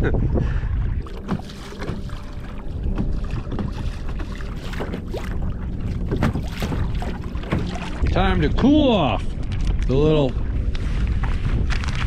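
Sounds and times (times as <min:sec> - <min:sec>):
wind rumble on microphone: 0:00.0 - 0:12.0
water slapping against kayak hull: 0:00.9 - 0:12.0.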